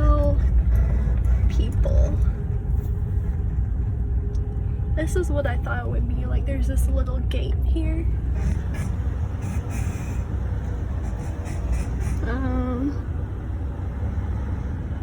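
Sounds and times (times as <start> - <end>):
car idling rumble: 0.0 - 15.0.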